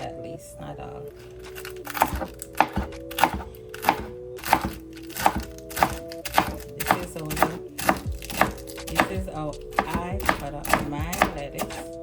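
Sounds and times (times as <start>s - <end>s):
knife chopping lettuce on board: 1.5s - 12.0s.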